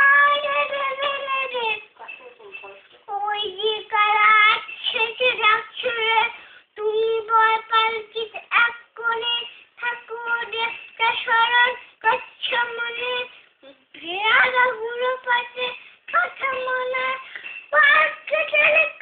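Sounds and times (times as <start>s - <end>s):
young boy reciting a poem: 0.0s - 19.0s.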